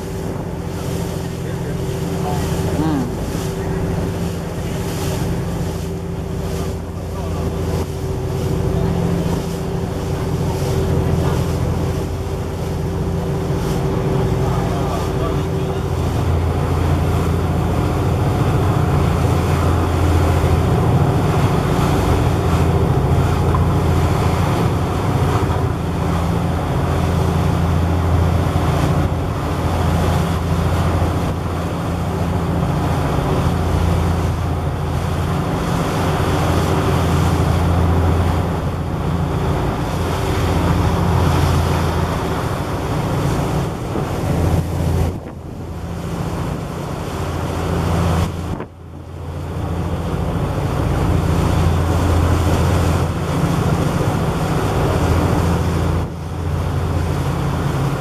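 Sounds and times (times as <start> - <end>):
boat engine droning: 0.0 - 58.0
water noise: 0.0 - 58.0
wind buffeting microphone: 3.2 - 58.0.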